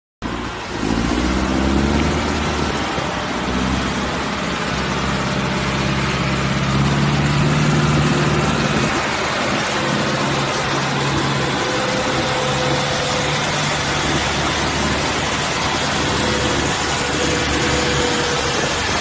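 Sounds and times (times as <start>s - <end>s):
tractor engines droning: 0.2s - 19.0s.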